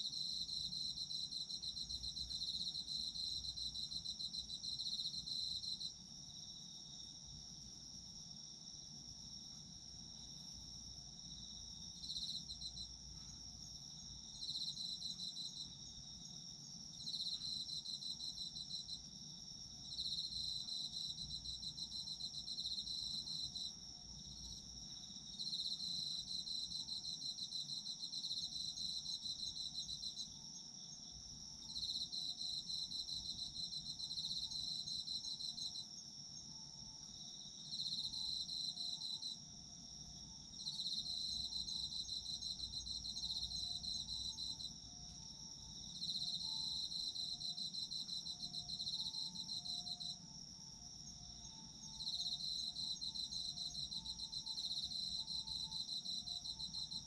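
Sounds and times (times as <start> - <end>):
cricket pulsed trill: 0.0 - 57.0
faint low insect chirps: 0.0 - 57.0.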